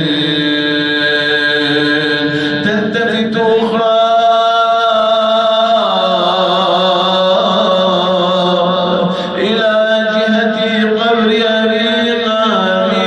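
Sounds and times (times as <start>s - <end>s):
man chanting mournful elegy: 0.0s - 13.0s.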